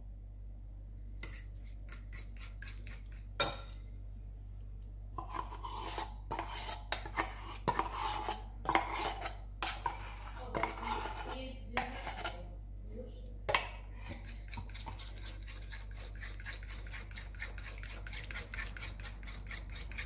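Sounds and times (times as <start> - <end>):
spoon scraping ceramic bowl: 1.2 - 3.8, 5.2 - 12.5, 13.6 - 20.0.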